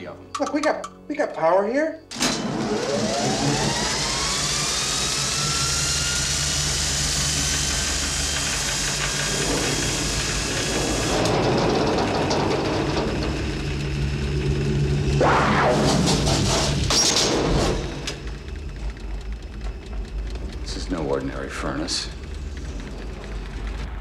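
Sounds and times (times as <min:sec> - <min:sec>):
deep machine rumble: 0:02.1 - 0:24.0
electric motor whine and hum: 0:02.1 - 0:24.0.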